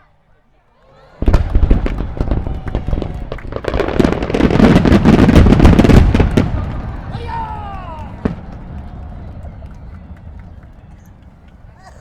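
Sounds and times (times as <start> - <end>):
fireworks bursting and crackling: 1.2 - 12.0.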